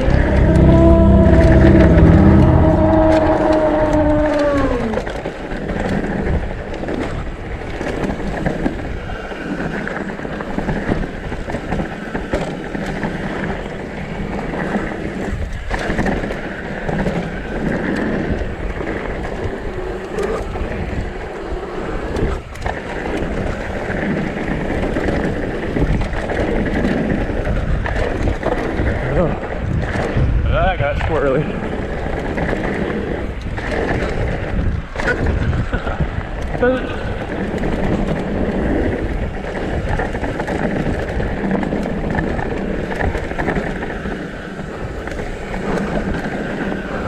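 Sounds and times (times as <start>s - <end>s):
wind rushing over microphone: 0.0s - 47.0s
tyres rolling over rocky trail: 3.0s - 47.0s.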